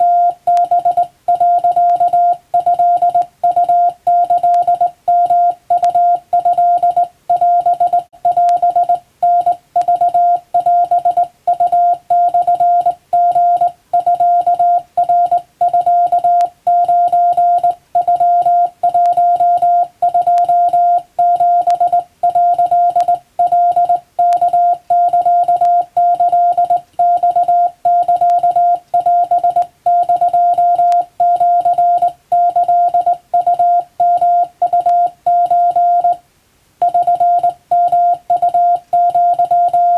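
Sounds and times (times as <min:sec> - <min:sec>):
morse code beeps: 0:00.0 - 0:36.2, 0:36.8 - 0:39.9.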